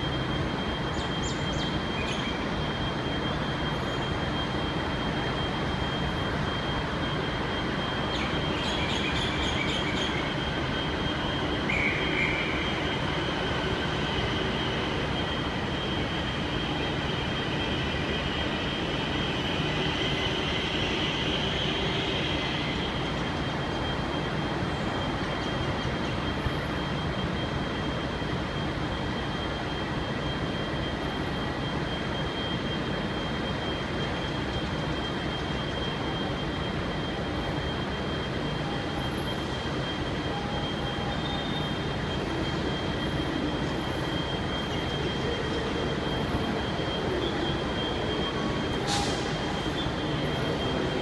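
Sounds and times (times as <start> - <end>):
diesel locomotive rumble: 0.0 - 51.0
high-pitched whine: 0.0 - 51.0.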